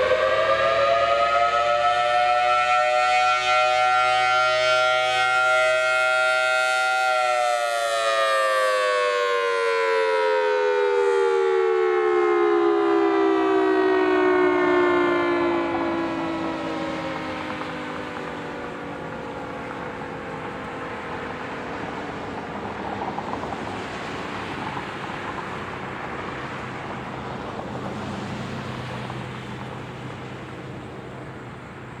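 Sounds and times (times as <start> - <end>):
road traffic noise: 0.0 - 32.0
warning siren winding down: 0.0 - 32.0.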